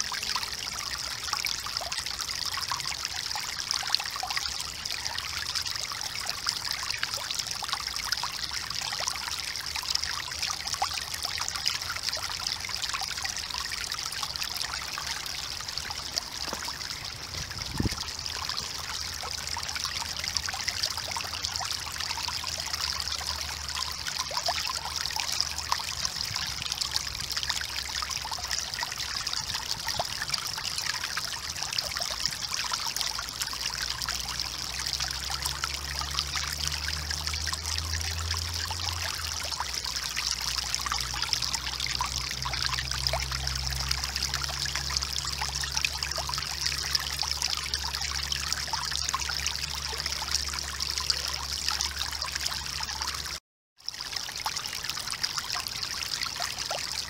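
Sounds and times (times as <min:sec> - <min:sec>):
trickling stream: 0:00.0 - 0:57.0.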